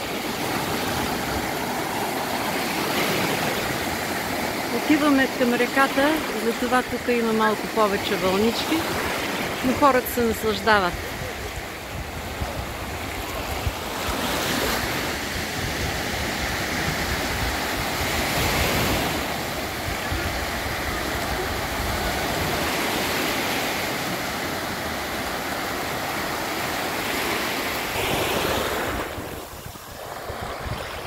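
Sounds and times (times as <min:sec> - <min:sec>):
small waves breaking on sand: 0:00.0 - 0:31.0.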